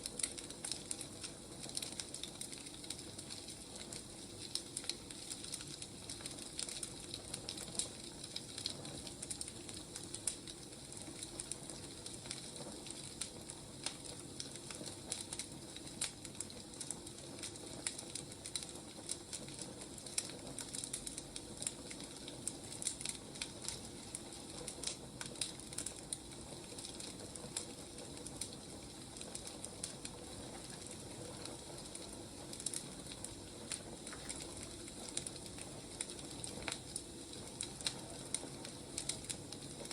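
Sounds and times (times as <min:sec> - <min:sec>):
fire hissing: 0:00.0 - 0:39.9
firewood crackling and popping: 0:00.0 - 0:39.9.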